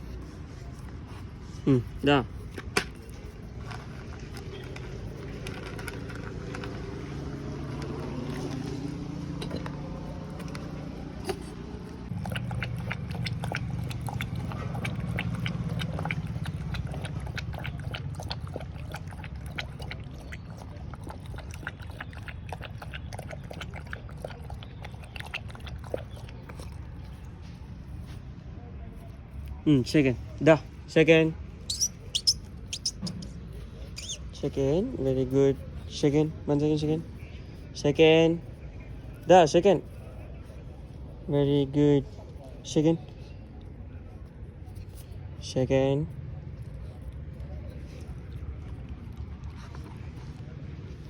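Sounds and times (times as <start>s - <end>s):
puppy chewing and crunching: 0.0s - 42.7s, 43.4s - 51.0s.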